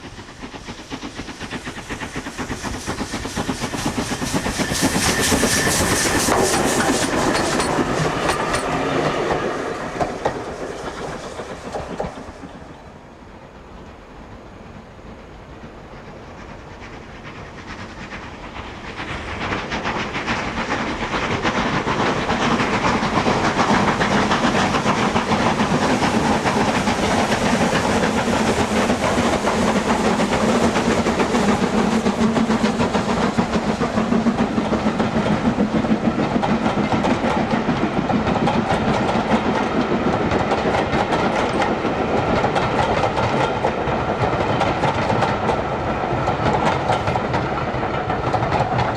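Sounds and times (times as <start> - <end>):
train clattering uphill: 0.0 - 48.9.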